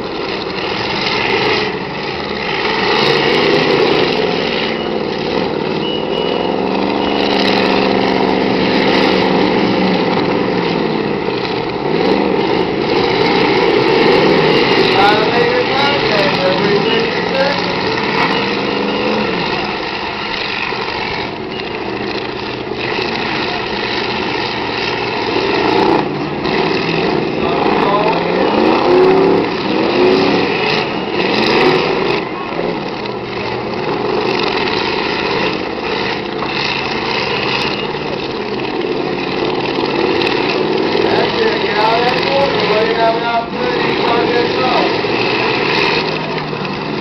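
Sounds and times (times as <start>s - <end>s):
car engines revving: 0.0s - 47.0s.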